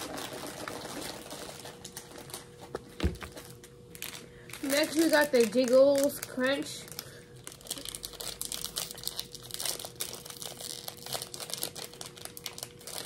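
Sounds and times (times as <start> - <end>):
plastic snack packet crinkling: 0.0 - 13.0.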